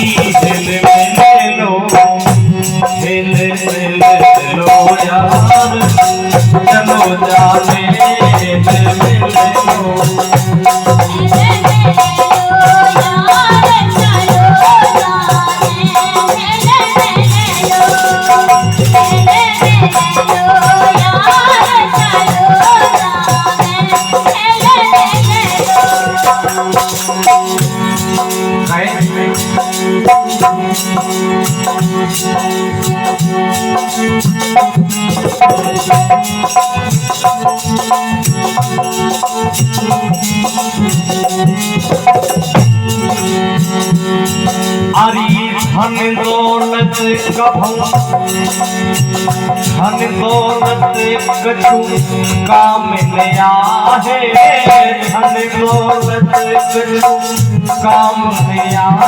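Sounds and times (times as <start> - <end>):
drum beat: 0.0 - 59.0
melodic instrumental line: 0.0 - 59.0.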